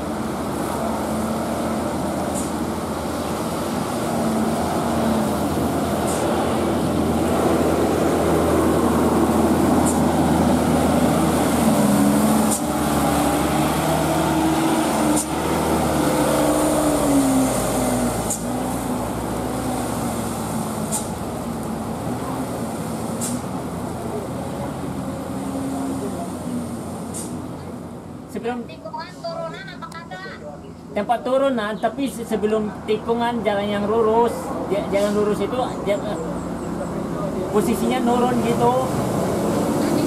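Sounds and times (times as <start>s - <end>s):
diesel truck engine labouring: 0.0s - 31.0s, 32.3s - 40.0s.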